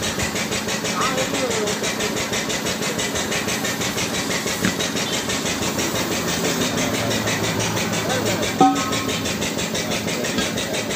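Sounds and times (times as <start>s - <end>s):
motor running with fast pulse: 0.0s - 10.9s.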